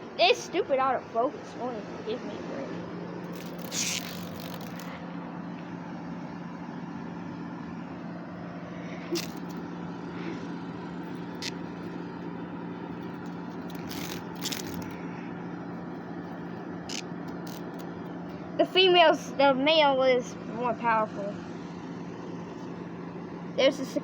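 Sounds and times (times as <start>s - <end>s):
low hum: 0.0s - 23.7s
outdoor background noise: 0.0s - 24.0s.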